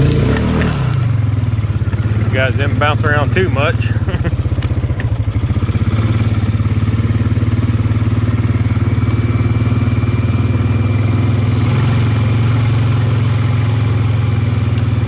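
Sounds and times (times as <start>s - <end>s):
quad engine throbbing: 0.0s - 15.0s.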